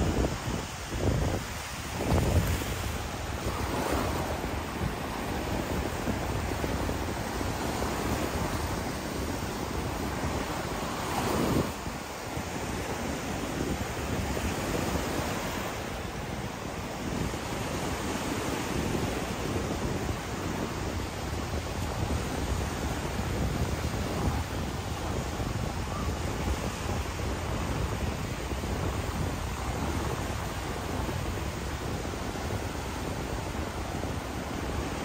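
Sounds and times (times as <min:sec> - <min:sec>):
surf washing onto beach: 0:00.0 - 0:35.0
wind buffeting microphone: 0:00.0 - 0:35.0.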